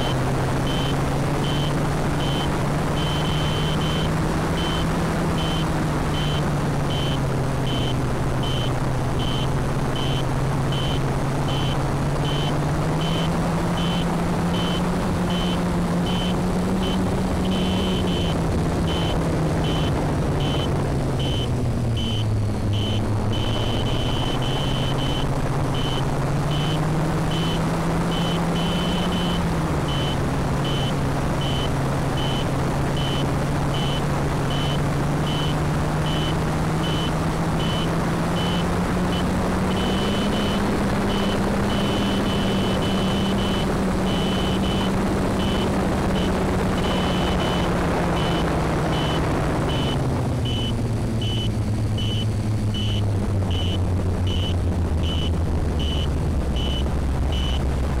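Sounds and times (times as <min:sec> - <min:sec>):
high beeps: 0:00.0 - 0:57.7
drone motors humming: 0:00.0 - 0:58.0.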